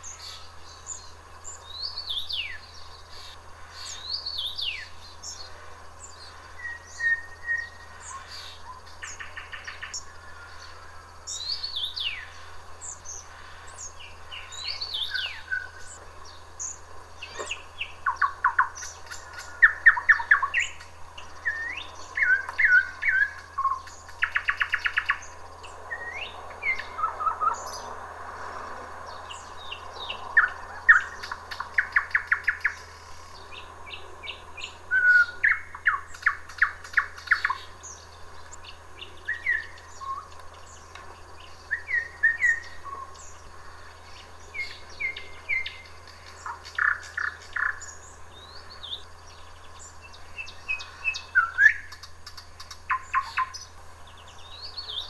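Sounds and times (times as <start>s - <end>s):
nightingale singing: 0.0s - 28.0s, 29.0s - 55.0s.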